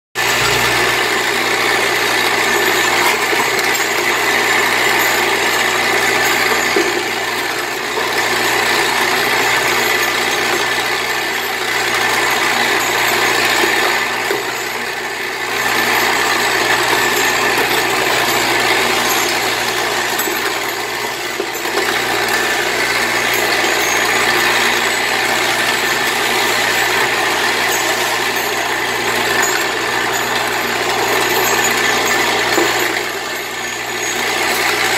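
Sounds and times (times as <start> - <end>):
low hum of vibrating drive: 0.2 - 34.9
metal spikes rattling in bowl: 0.2 - 34.9.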